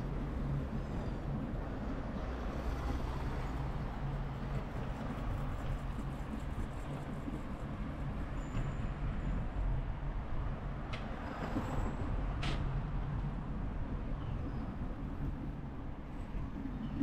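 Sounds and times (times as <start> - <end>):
low rumble of vehicle and road: 0.0 - 17.0.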